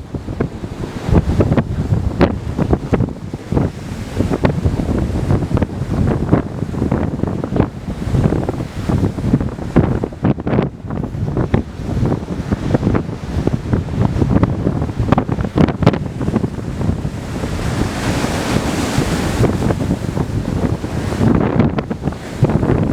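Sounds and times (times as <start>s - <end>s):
waves breaking on shore: 0.0s - 22.9s
wind buffeting microphone: 0.0s - 22.9s.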